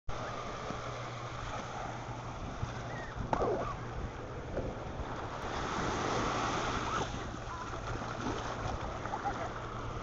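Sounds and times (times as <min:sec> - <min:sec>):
small waves washing on beach: 0:00.1 - 0:10.0.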